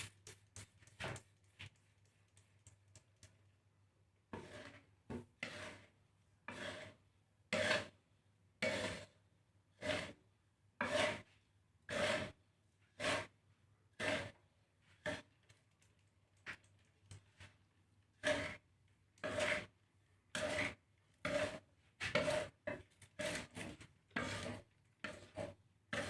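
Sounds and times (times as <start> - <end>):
spatula scraping seeds in pan: 0.0 - 3.4, 4.3 - 8.0, 8.6 - 10.2, 10.8 - 26.0.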